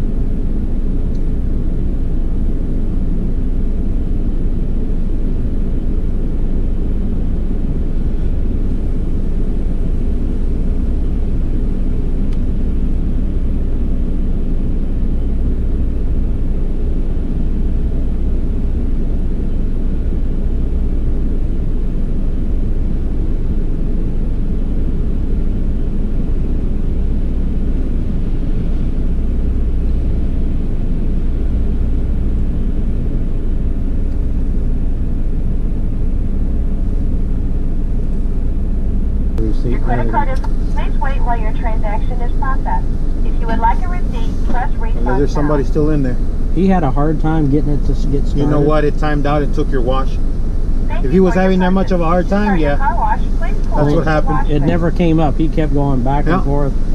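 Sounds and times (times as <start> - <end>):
car engine idling: 0.0 - 56.9.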